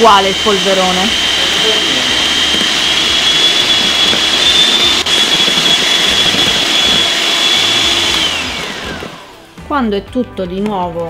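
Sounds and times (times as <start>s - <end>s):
electric hand mixer whining: 0.0s - 9.6s.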